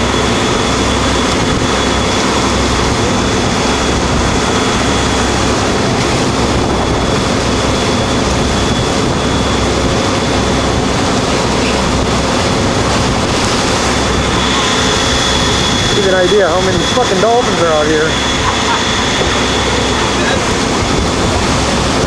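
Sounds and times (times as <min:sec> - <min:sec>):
boat engine droning: 0:00.0 - 0:22.0
thin high whine: 0:00.0 - 0:22.0.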